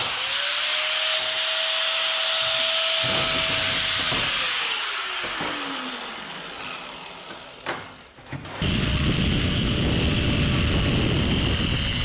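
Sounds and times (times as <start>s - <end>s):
angle grinder cutting steel: 0.0s - 7.6s, 8.6s - 12.0s.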